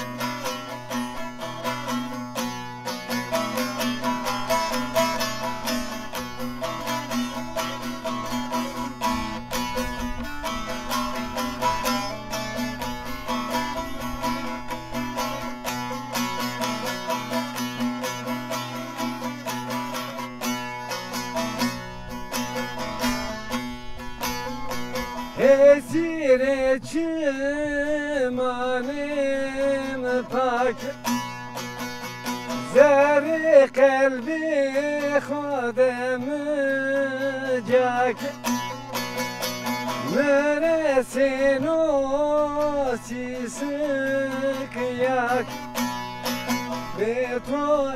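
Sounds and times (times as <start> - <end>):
man singing folk song: 0.0 - 47.9
plucked long-necked lute: 0.0 - 47.9.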